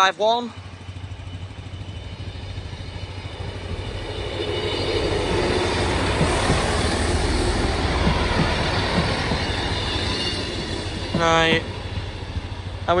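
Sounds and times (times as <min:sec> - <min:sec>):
diesel train engine rumble: 0:00.0 - 0:13.0
train wheels on rails: 0:00.0 - 0:13.0.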